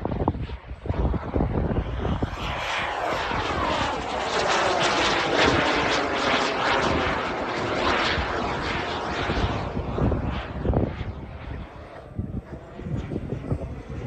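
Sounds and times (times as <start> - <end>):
model jet turbine roaring: 0.0 - 14.0.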